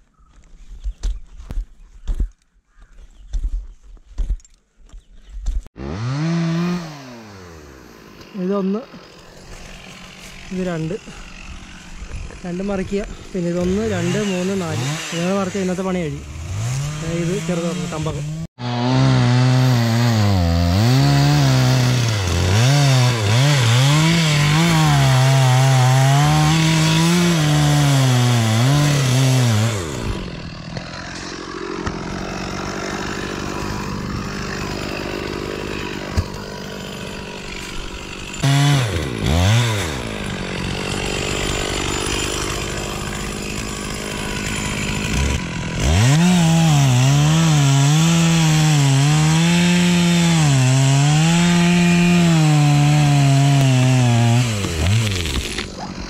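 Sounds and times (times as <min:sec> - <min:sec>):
chainsaw cutting tree trunk: 0:05.7 - 0:56.0.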